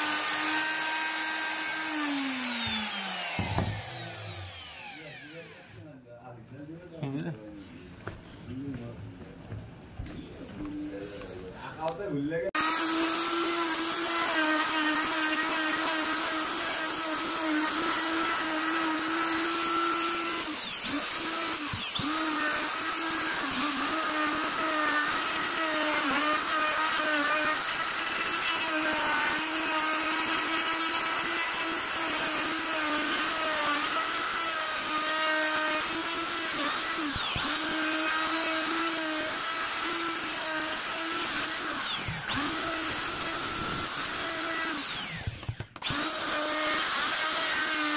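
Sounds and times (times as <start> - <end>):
electric router whining: 0.0 - 5.8, 10.8 - 47.9.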